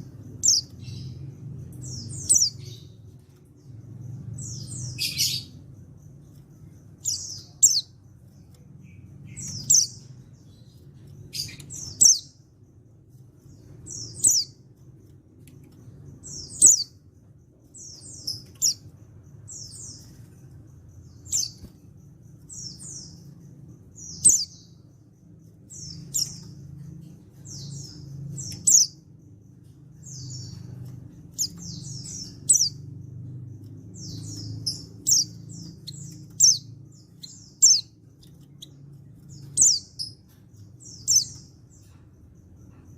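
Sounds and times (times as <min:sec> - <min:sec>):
bird chirping: 0:00.0 - 0:42.9
faint low hum: 0:00.0 - 0:42.9.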